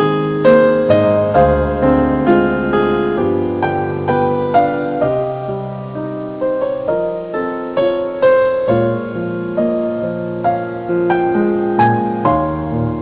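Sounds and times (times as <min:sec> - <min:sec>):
slow gentle solo piano: 0:00.0 - 0:13.0.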